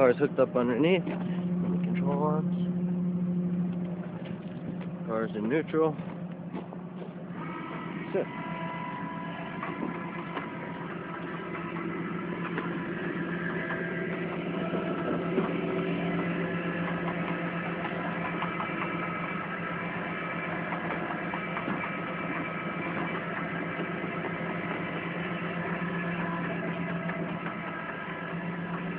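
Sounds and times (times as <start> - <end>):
truck engine humming: 0.0 - 28.9.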